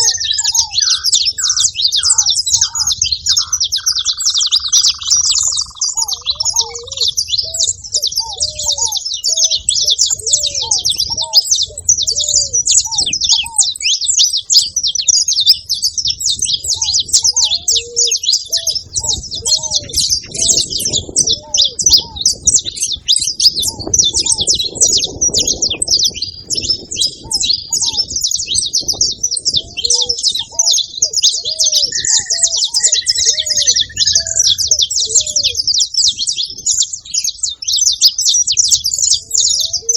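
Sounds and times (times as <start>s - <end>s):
dove cooing: 0.0s - 37.7s, 38.7s - 39.9s
finches chirping: 0.0s - 39.9s.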